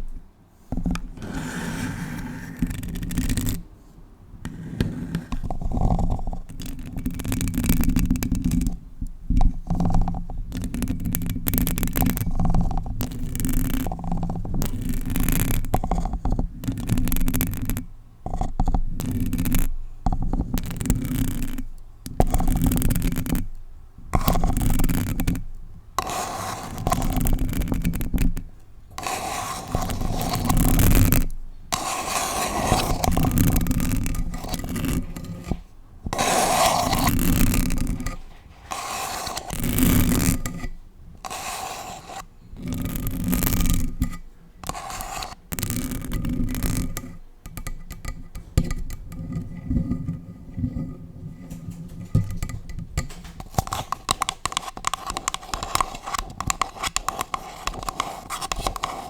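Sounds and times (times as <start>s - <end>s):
nails scratching on microphone: 0.0s - 3.7s, 4.4s - 8.8s, 9.4s - 23.6s, 24.2s - 59.0s
nails scratching on paper cup: 0.0s - 3.7s, 4.4s - 59.0s.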